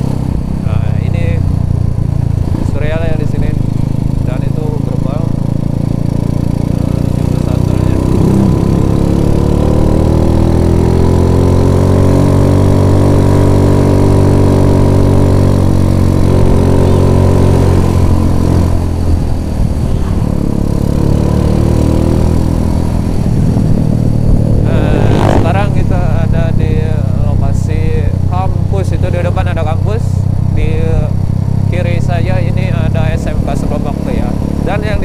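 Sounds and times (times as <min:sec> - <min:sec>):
small motorcycle engine running: 0:00.0 - 0:35.0.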